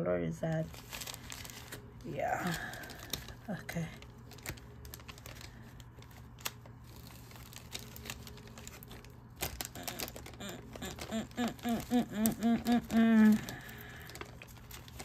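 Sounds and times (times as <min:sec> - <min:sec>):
plastic bags rustling and clicking: 0:00.4 - 0:15.0.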